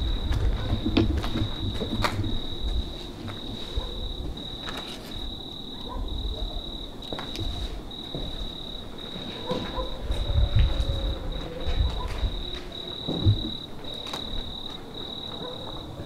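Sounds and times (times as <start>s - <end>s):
knocks and scuffs: 0.0s - 5.3s, 7.0s - 15.8s
cricket trilling: 0.0s - 16.0s.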